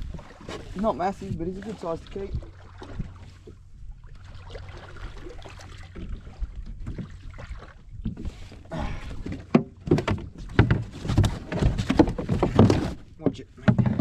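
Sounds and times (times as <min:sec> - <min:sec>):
knocks and splashes: 0:00.0 - 0:14.0
low rumble of wind and water: 0:00.0 - 0:14.0.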